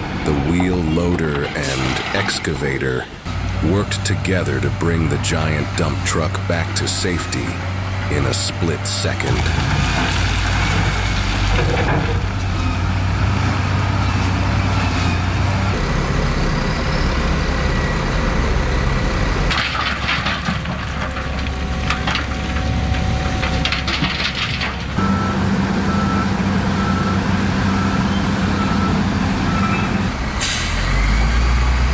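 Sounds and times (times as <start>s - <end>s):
heavy diesel machinery running: 0.0s - 31.9s.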